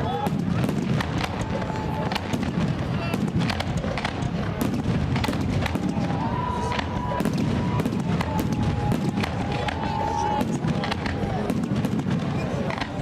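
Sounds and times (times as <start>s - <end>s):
fireworks whistling: 0.0s - 12.9s
fireworks bangs and crackles: 0.0s - 13.0s.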